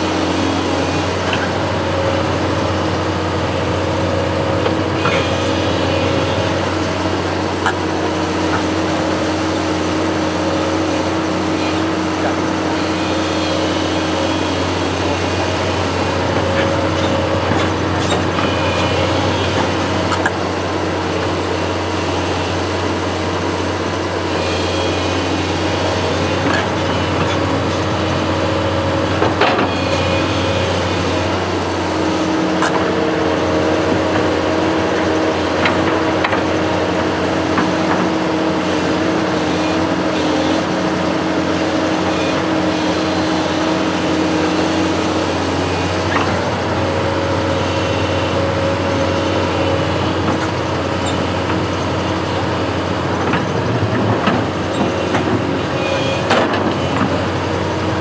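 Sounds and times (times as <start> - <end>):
construction machine engine running: 0.0 - 58.0.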